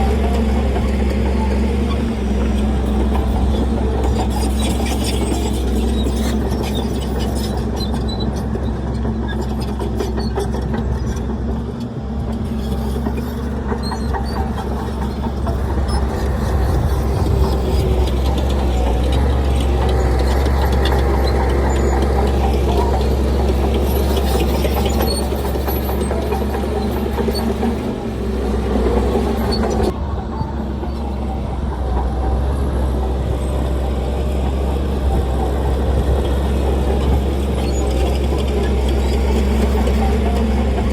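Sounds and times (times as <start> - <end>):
diesel machinery engine hum: 0.0 - 40.9.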